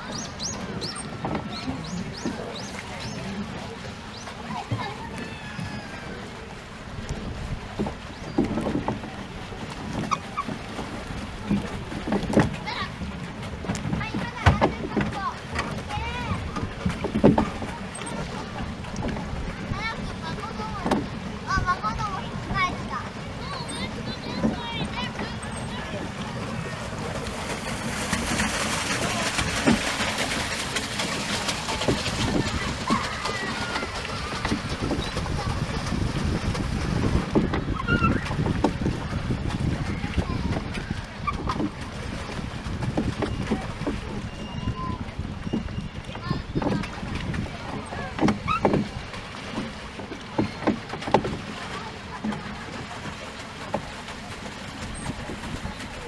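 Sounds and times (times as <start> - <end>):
water washing against a boat: 0.0 - 56.0.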